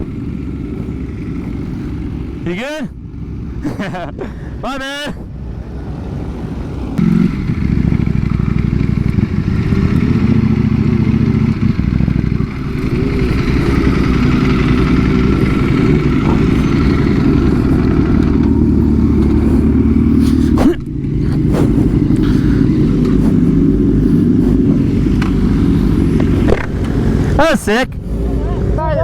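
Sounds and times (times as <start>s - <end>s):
motorcycle engine revving: 0.0s - 4.6s, 5.2s - 29.0s.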